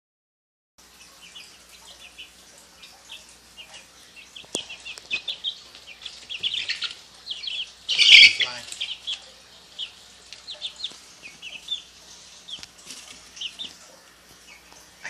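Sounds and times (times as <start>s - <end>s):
chicks peeping: 0.8s - 15.0s.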